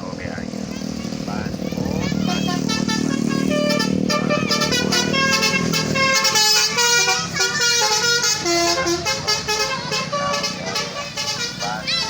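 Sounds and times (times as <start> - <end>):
air horns playing a tune: 2.2 - 12.0.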